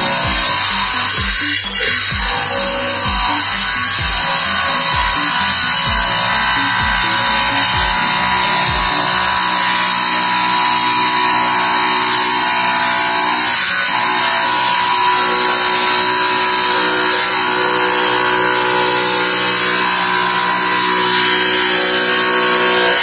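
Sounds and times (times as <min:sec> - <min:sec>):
table saw grinding through tile: 0:00.0 - 0:23.0.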